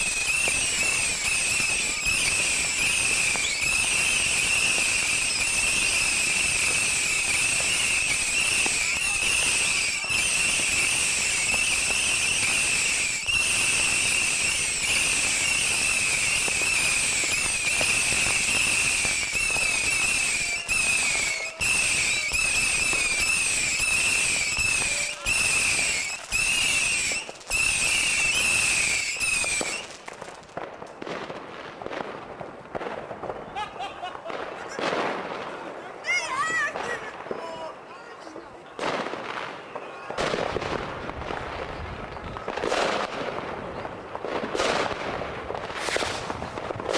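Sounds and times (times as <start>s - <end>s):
fireworks crackling: 0.0s - 46.9s.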